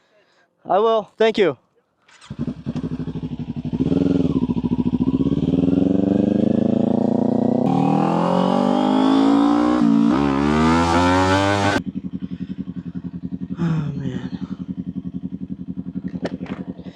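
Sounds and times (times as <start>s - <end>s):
motorcycle engine accelerating: 2.1s - 16.9s.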